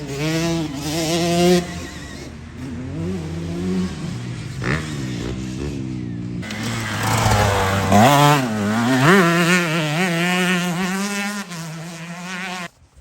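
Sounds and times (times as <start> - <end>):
dirt bike revving: 0.0 - 12.8.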